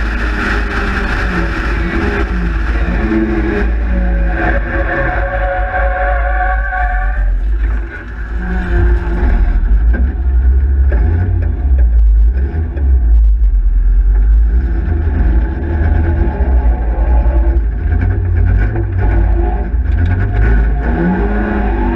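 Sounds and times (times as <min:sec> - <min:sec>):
racing car engine: 0:00.0 - 0:21.9.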